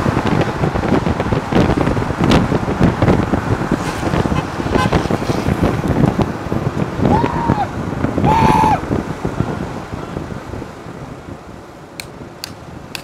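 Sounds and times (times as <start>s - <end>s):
rolling on asphalt rumble: 0.0s - 13.0s
wind buffeting microphone: 0.0s - 13.0s.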